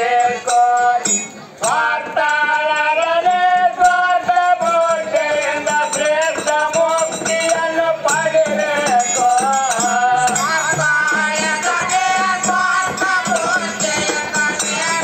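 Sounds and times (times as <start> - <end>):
jingling percussion: 0.0 - 15.0.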